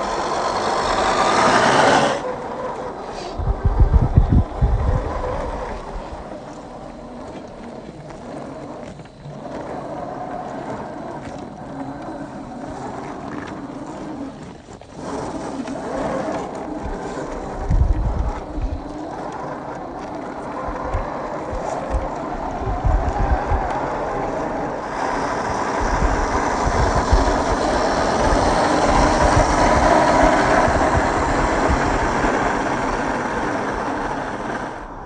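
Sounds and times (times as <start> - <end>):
electric motor whining: 0.0 - 35.0
low rumble of wind on microphone: 0.0 - 35.0.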